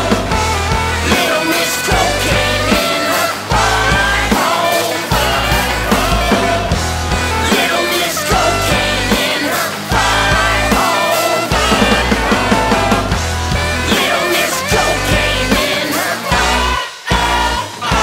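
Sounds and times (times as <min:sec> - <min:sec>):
punk rock band playing: 0:00.0 - 0:18.0.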